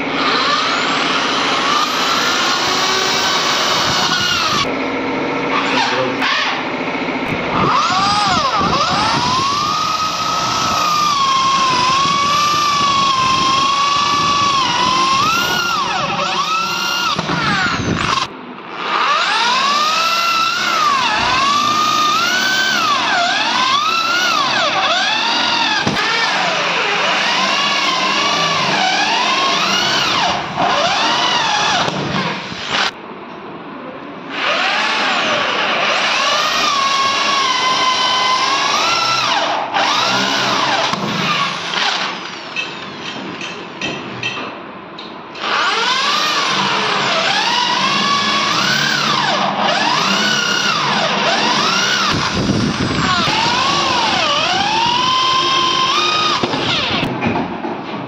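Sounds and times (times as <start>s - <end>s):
electric drill boring wood: 0.0s - 4.7s, 7.5s - 33.0s, 34.3s - 43.1s, 45.4s - 57.1s.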